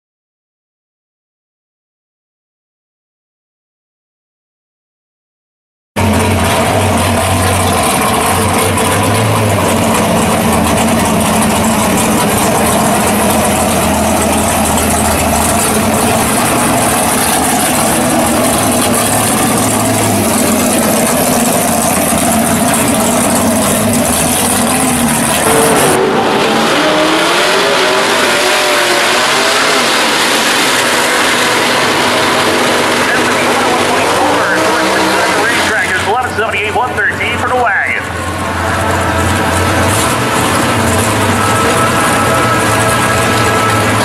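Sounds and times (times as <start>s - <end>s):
engine revving in short blips: 6.0s - 36.3s, 38.1s - 44.0s
car engine running at low speed: 6.0s - 44.0s.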